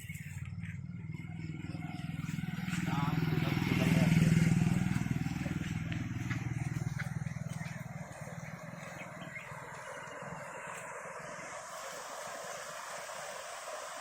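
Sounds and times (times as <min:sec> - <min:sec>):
vehicle engine running: 0:00.0 - 0:11.6
outdoor background: 0:00.0 - 0:14.0.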